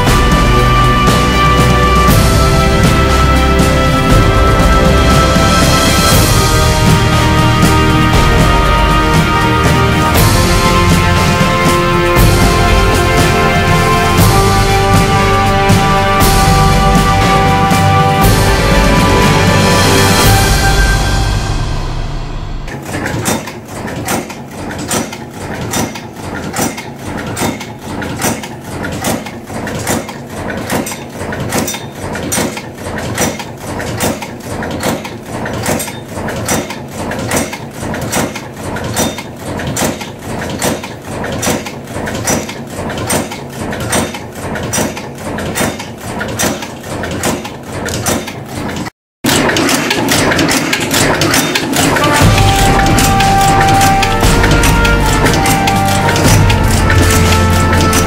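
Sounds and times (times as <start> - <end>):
forging machine strokes: 0.0 - 58.0.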